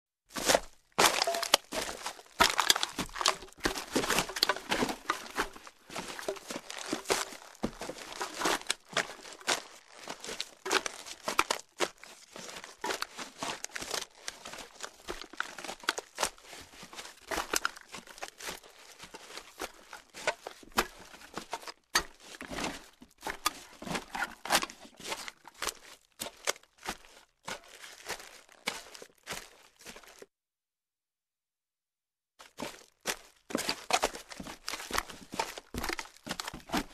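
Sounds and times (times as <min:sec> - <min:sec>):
footsteps crunching through garbage: 0:00.3 - 0:30.3, 0:32.4 - 0:36.9.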